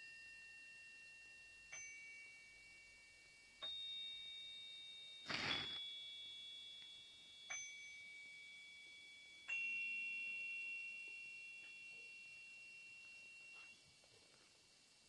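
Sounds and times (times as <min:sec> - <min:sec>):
soft bell-like chime: 0:00.0 - 0:14.7.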